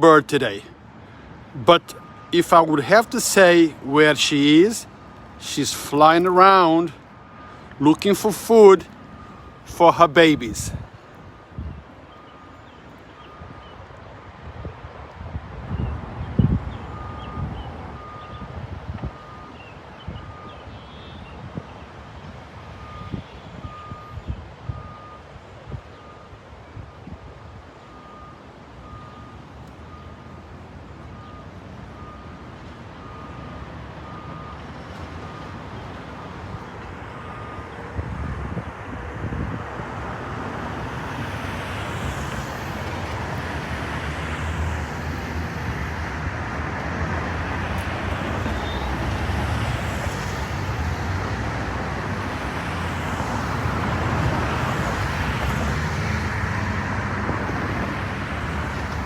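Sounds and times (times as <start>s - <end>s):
traffic engine and road noise: 0.0s - 59.0s
vehicle reversing alarm beeps: 0.1s - 14.0s, 16.6s - 21.4s, 22.6s - 38.3s, 40.8s - 56.2s.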